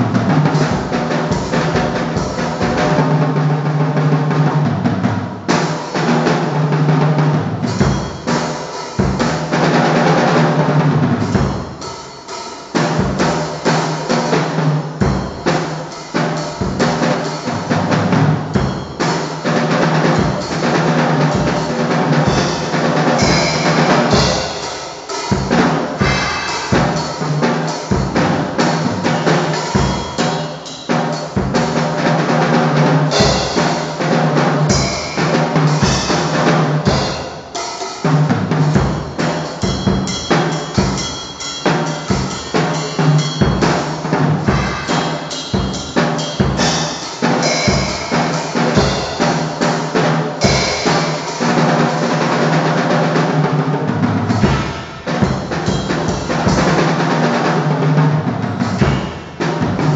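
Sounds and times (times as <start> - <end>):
acoustic drum kit playing: 0.0 - 59.9.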